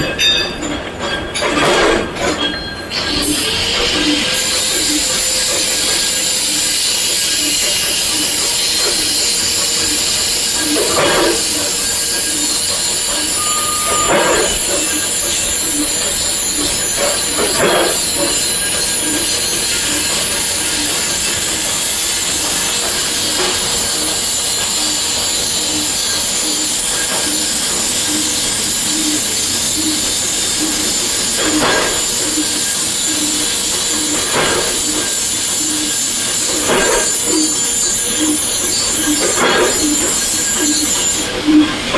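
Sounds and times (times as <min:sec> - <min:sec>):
industrial machinery running: 0:00.0 - 0:41.9.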